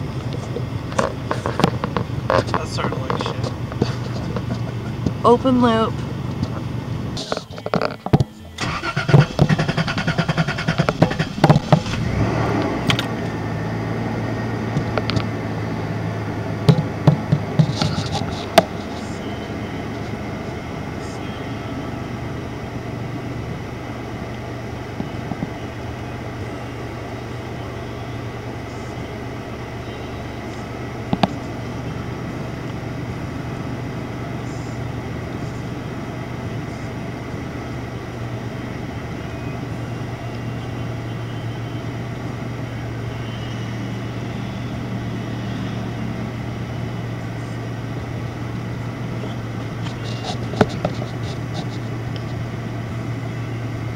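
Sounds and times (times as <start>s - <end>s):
engine cranking and idling: 0.0s - 53.9s.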